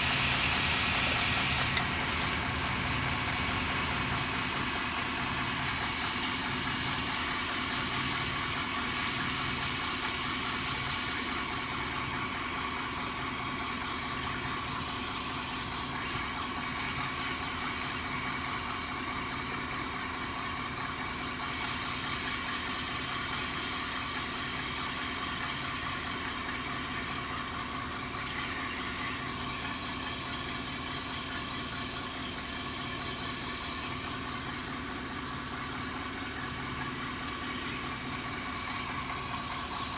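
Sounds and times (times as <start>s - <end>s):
van engine running with throb: 0.0s - 39.9s.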